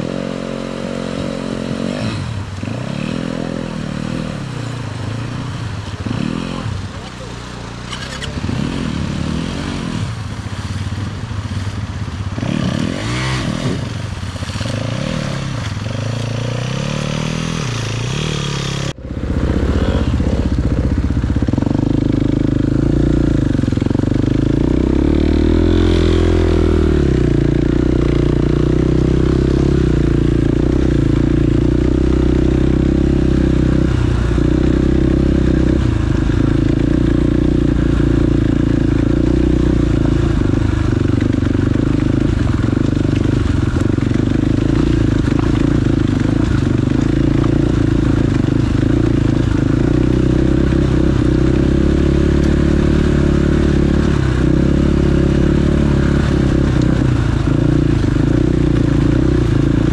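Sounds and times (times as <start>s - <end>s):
dirt bike engine revving: 0.0s - 10.7s, 11.4s - 59.9s.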